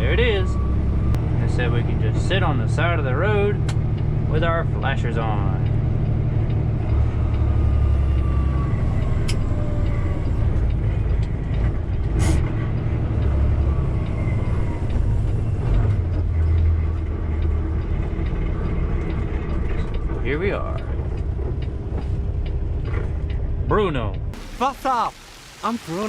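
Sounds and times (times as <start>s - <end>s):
diesel truck engine rumbling: 0.0s - 26.0s.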